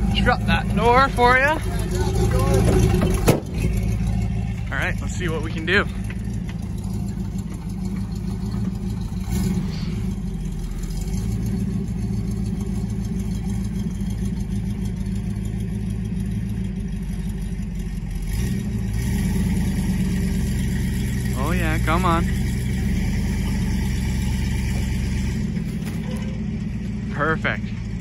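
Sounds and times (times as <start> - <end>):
truck engine running under load: 0.0 - 28.0.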